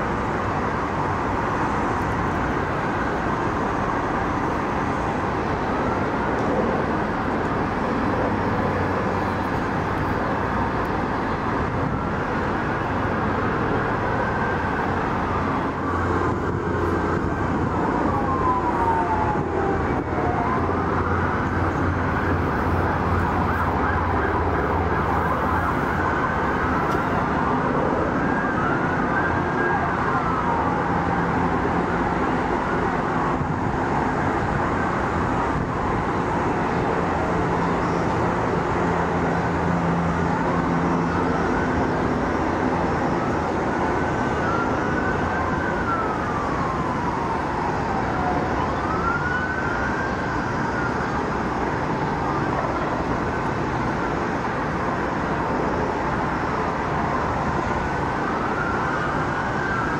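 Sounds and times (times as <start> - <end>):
city traffic hum: 0.0 - 59.9
sirens wailing: 0.0 - 59.9.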